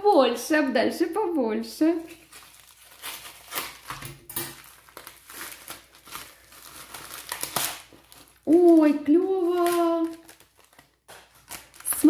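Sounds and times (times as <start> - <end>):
packaging crinkling and rustling: 2.0 - 12.0
packaging tearing: 2.1 - 12.0.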